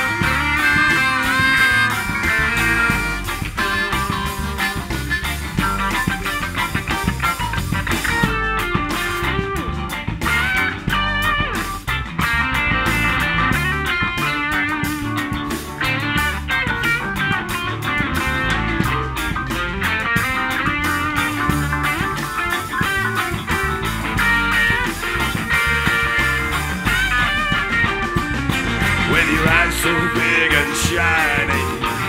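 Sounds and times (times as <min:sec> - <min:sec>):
electric guitar solo runs: 0:00.0 - 0:32.0
live band playing: 0:00.0 - 0:32.0.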